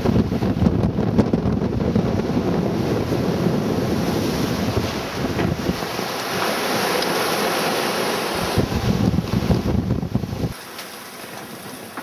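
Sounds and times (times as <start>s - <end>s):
wind buffeting microphone: 0.0s - 7.2s, 8.1s - 10.6s
sea water rushing along hull: 0.0s - 12.0s.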